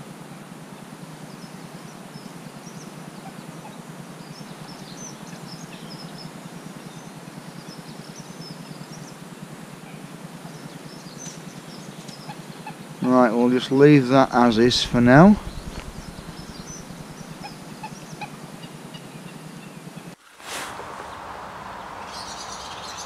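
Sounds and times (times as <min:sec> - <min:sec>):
background hiss: 0:00.0 - 0:23.0
songbirds chirping: 0:00.8 - 0:20.2.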